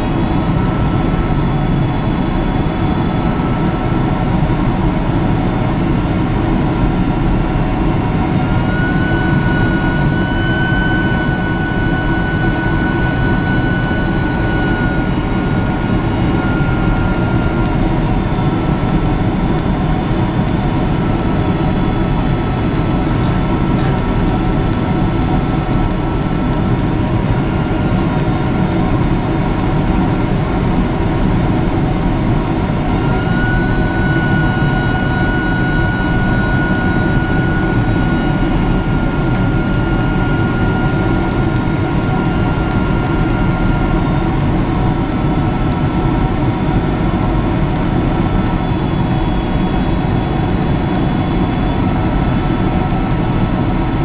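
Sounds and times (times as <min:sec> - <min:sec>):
jet engine roar in cabin: 0:00.0 - 0:54.0
thin high whine: 0:00.0 - 0:54.0.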